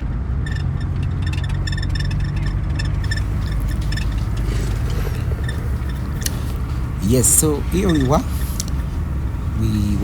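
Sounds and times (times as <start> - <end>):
light ticks and rattles: 0.0 - 9.9
car engine and road rumble: 0.0 - 10.0.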